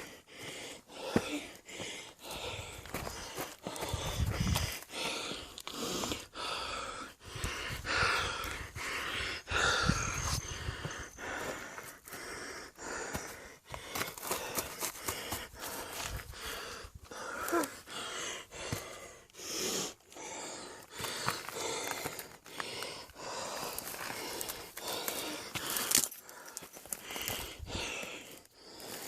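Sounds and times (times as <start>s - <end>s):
person breathing hard: 0.0s - 29.0s.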